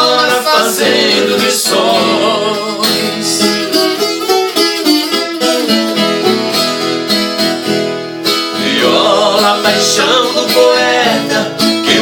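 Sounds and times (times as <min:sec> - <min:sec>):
ten-string guitar picking melody: 0:00.0 - 0:12.0.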